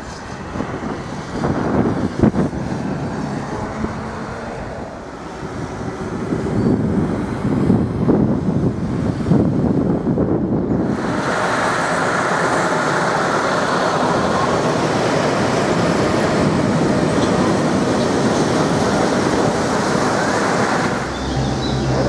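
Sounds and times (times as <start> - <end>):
cable car rumbling: 0.0 - 22.0.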